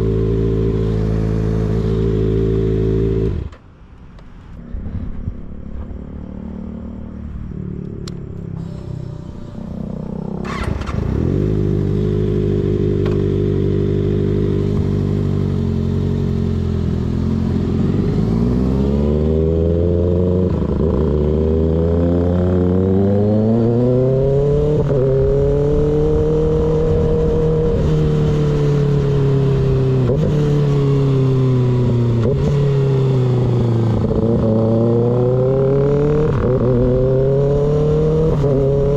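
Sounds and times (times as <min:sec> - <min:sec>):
motorcycle engine accelerating: 0:00.0 - 0:03.6, 0:04.6 - 0:38.9.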